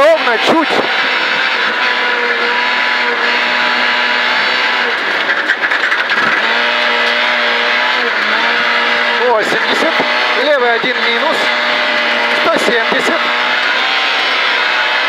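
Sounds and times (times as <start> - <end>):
car engine at high revs: 0.0 - 15.0.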